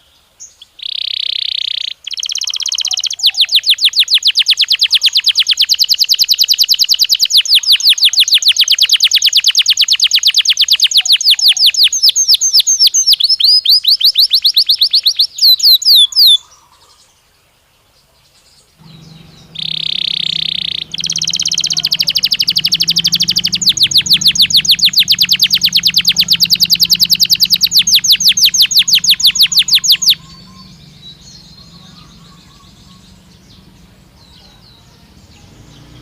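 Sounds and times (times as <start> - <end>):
canary singing: 0.0 - 16.7, 18.8 - 36.0.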